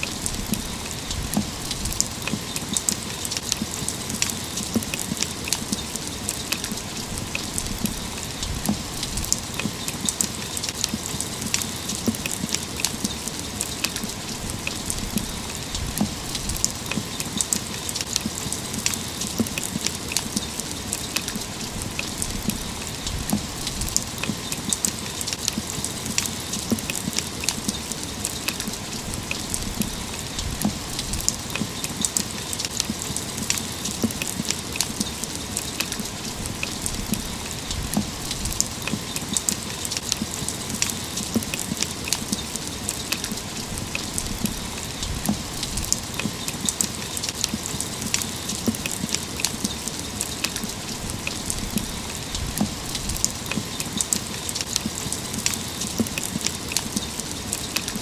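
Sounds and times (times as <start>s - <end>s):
raindrops ticking on a railing: 0.0s - 58.0s
steady rain falling: 0.0s - 58.0s.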